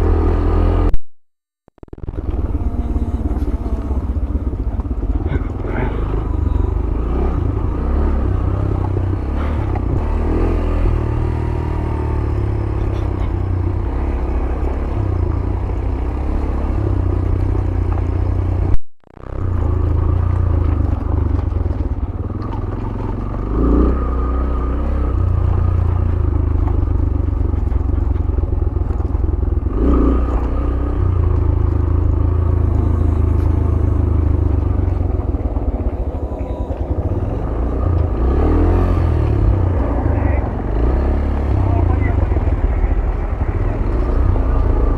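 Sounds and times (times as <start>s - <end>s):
motorcycle engine running: 0.0s - 1.0s, 1.7s - 44.9s
motorcycle clattering over rough ground: 1.8s - 44.9s.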